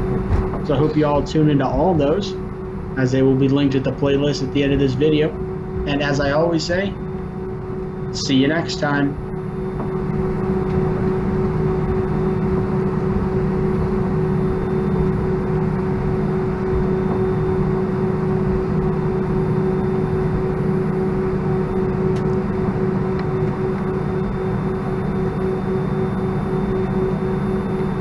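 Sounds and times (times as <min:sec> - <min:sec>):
jet engines idling drone: 0:00.0 - 0:28.0.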